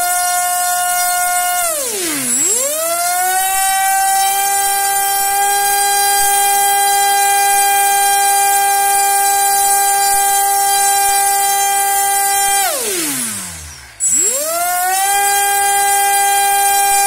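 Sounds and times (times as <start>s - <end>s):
electric motor high-pitched whine: 0.0s - 17.0s.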